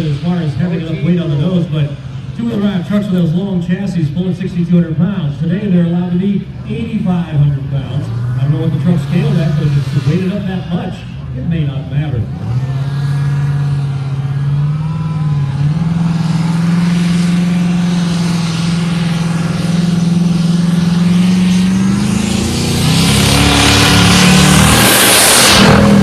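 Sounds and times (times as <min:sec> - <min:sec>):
diesel truck engine under load: 0:00.0 - 0:26.0.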